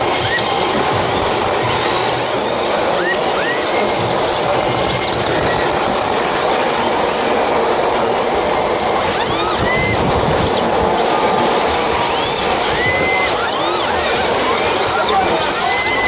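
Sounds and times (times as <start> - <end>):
tyre squeals: 0.0 - 6.0, 8.6 - 16.0
rc car motors rushing: 0.0 - 16.0.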